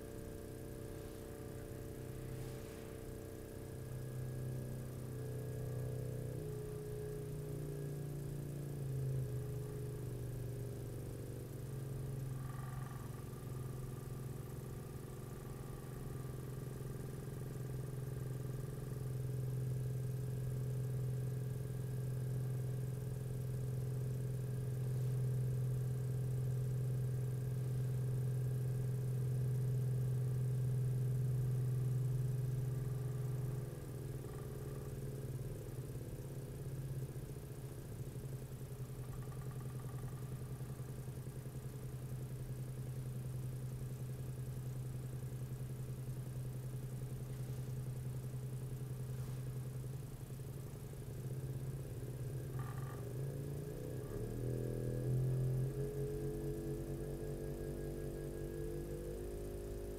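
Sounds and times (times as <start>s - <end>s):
wave driver humming: 0.0s - 59.9s.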